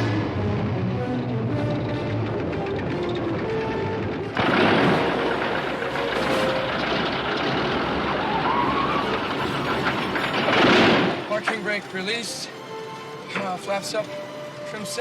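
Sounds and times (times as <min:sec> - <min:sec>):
aircraft engines running: 0:00.0 - 0:15.0.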